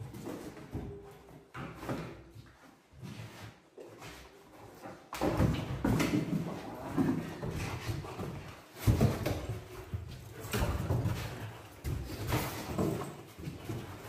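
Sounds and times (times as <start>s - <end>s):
dog scuffing and pawing wall: 0.0s - 14.0s.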